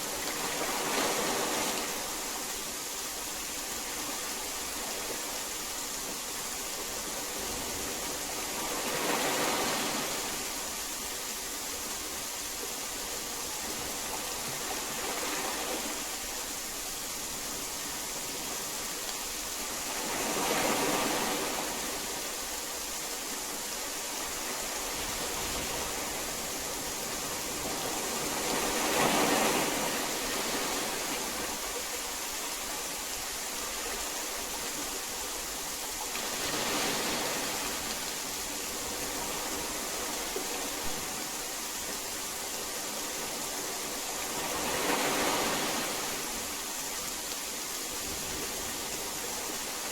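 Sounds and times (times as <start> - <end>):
heavy rain hiss: 0.0 - 49.9.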